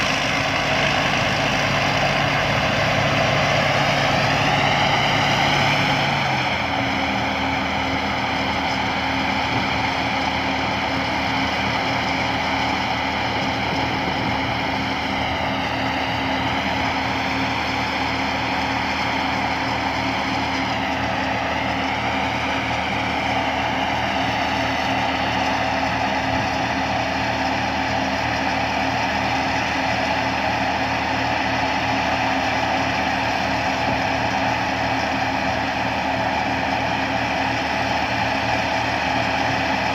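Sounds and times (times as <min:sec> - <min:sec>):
combine harvester engine: 0:00.0 - 0:39.9
high machinery whine: 0:00.0 - 0:39.9.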